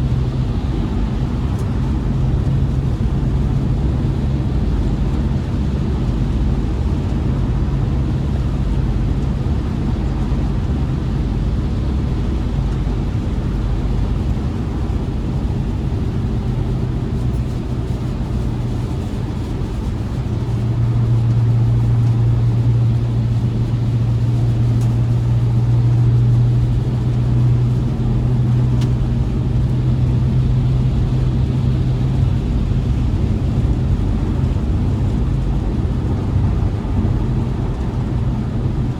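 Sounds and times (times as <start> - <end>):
car engine drone: 0.0 - 38.9
road rumble: 0.0 - 38.9.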